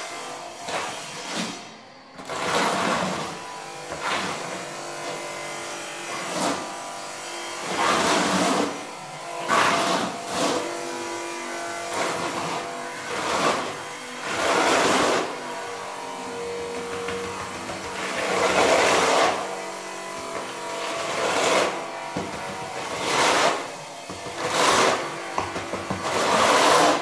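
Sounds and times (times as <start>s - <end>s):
trowel scraping wet adhesive: 0.6s - 6.8s, 7.5s - 27.0s.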